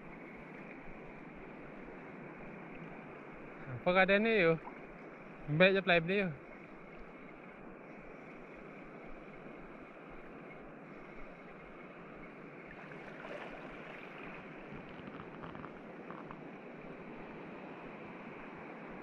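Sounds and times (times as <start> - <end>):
shallow sea water and surf: 0.0 - 19.0.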